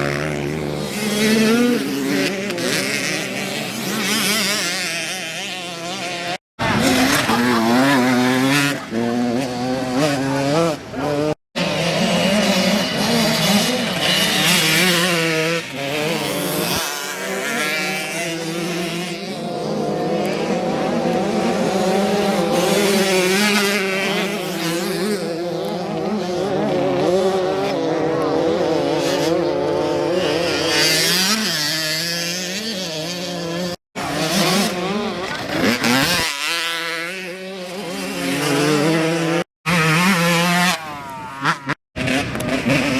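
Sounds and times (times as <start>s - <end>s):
dirt bike engines revving: 0.0s - 42.9s.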